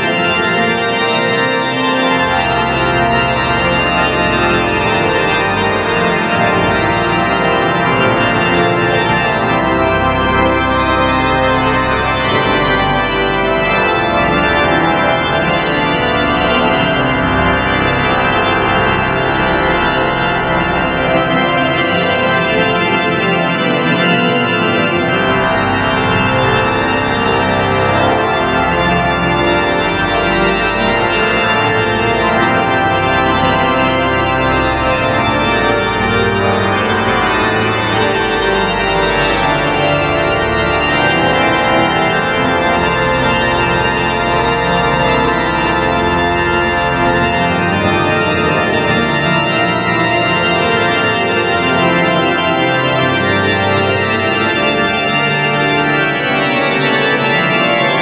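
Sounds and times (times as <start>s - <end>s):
church organ playing chords: 0.0s - 58.0s.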